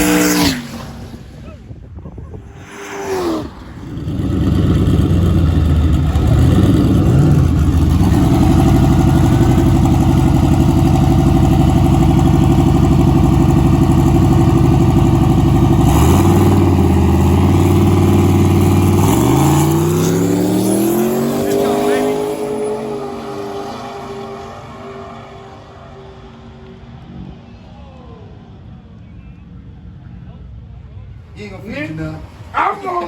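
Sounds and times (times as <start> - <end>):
car engine revving: 0.0 - 1.5, 2.3 - 27.5.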